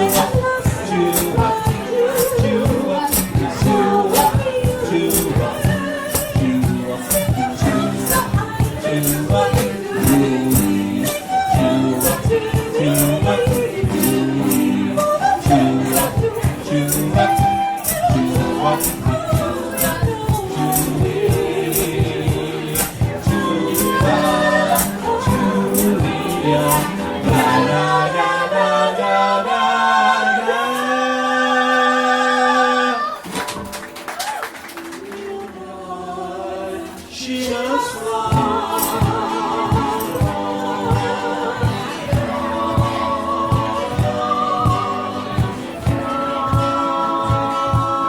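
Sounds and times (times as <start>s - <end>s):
hand percussion beat: 0.0s - 28.4s, 37.8s - 48.0s
vocal group singing: 0.0s - 34.0s, 34.7s - 48.0s.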